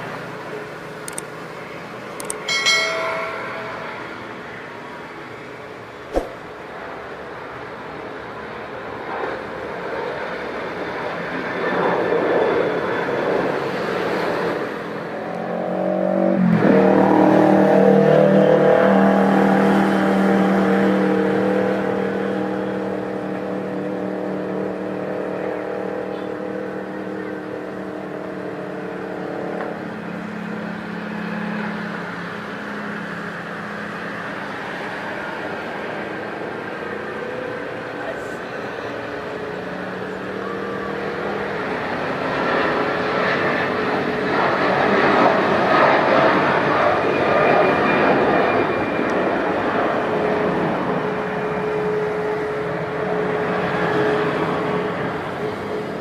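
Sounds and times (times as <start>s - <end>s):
jet airliner engines roaring: 0.0s - 56.0s.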